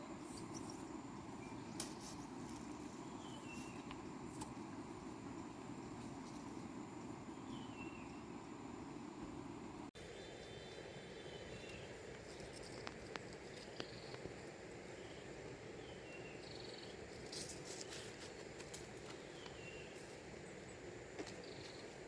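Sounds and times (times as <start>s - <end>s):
steady outdoor hiss: 0.0s - 22.0s.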